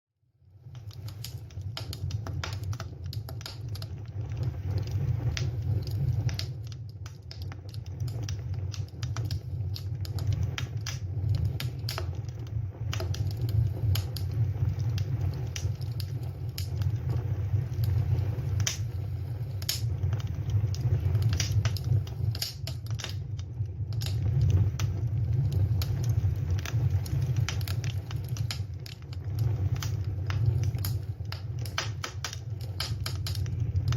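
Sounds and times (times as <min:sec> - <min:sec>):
fire low rumble: 0:00.2 - 0:33.9
campfire crackling and popping: 0:00.4 - 0:33.9.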